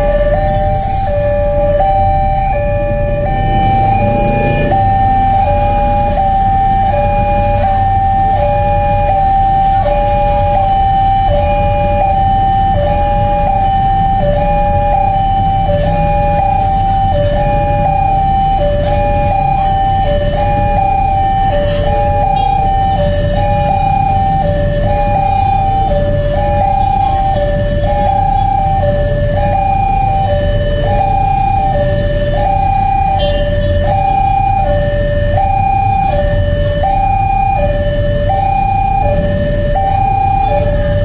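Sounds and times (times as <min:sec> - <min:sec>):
level crossing alarm two-tone signal: 0:00.0 - 0:41.0.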